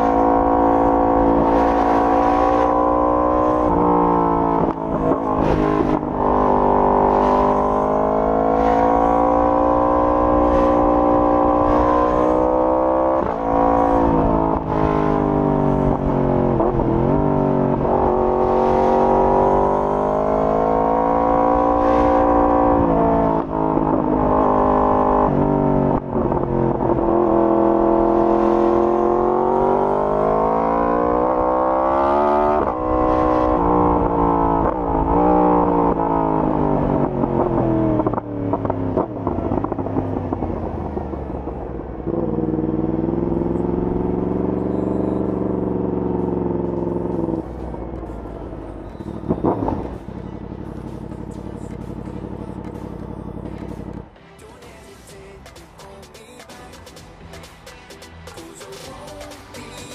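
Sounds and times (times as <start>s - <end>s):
motorcycle engine revving: 0.0s - 54.1s.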